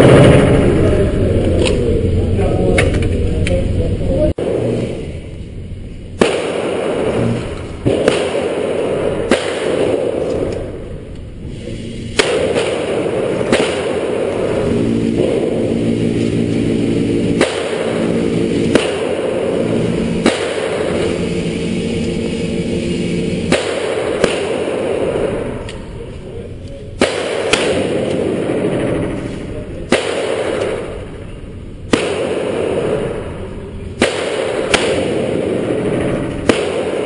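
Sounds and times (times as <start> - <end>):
steady background hum: 0.0 - 37.0
rifle shots: 6.1 - 37.0.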